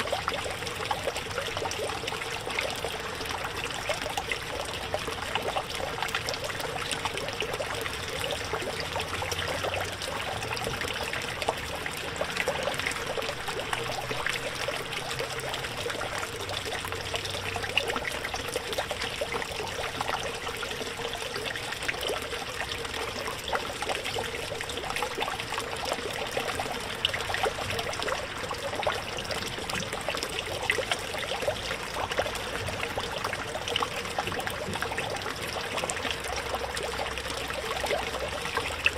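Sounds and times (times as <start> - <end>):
faint pump hum: 0.0 - 38.9
fountain water trickling and splashing: 0.0 - 38.9.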